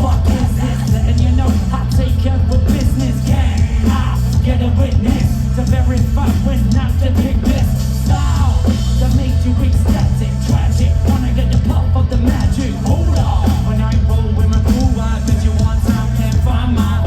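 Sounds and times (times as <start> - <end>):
heavy rock band playing live: 0.0 - 17.0
person singing: 0.0 - 17.0.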